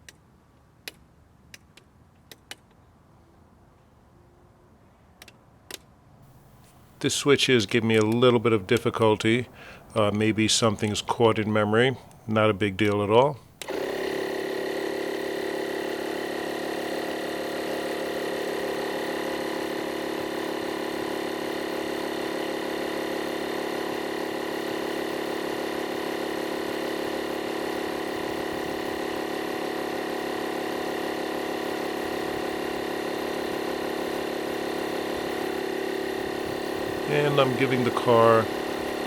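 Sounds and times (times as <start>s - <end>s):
air compressor humming: 6.2s - 39.0s.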